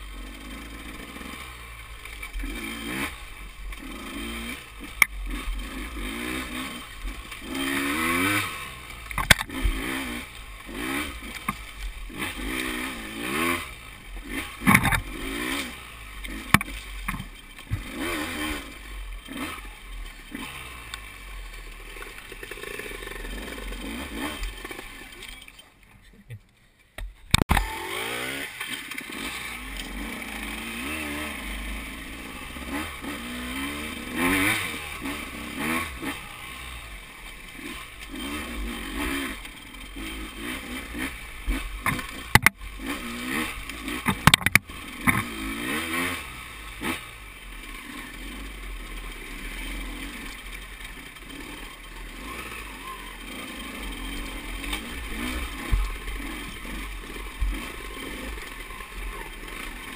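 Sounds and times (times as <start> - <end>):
motorcycle engine revving: 0.0 - 25.7, 27.3 - 59.9.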